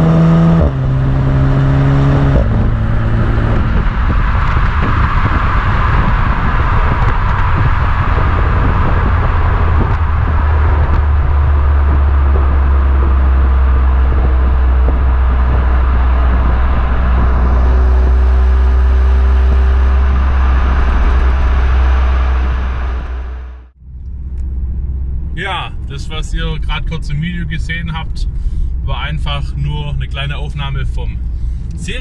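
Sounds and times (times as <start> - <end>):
car exhaust drone: 0.0 - 32.0
road noise: 0.0 - 32.0.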